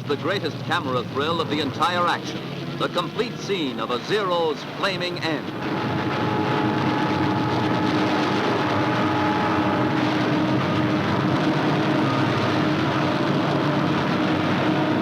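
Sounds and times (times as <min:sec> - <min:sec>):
aircraft engine drone: 0:00.0 - 0:15.0.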